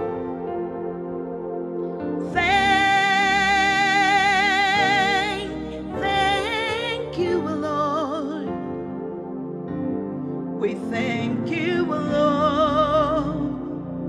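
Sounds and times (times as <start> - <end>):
slow worship music: 0.0 - 14.0.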